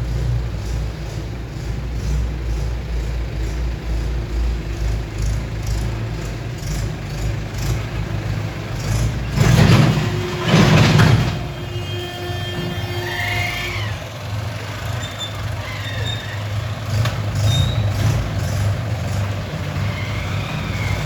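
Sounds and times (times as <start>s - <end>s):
traffic engine rumble: 0.0s - 21.0s
vehicles passing tyres hissing: 0.0s - 21.0s.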